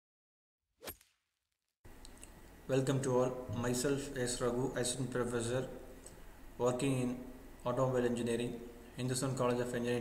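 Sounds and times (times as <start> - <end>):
faint hiss with low hum: 1.9 - 10.0.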